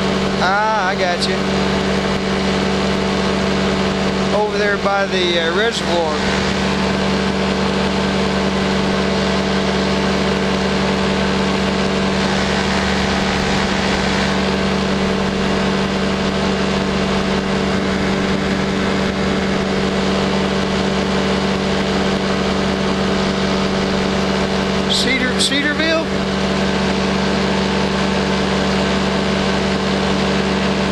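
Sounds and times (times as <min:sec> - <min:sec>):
propeller engine drone: 0:00.0 - 0:30.9.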